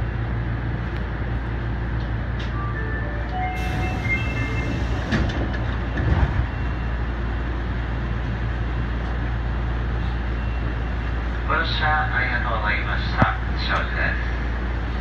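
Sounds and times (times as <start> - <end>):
electric train rumble and hum: 0.0 - 15.0.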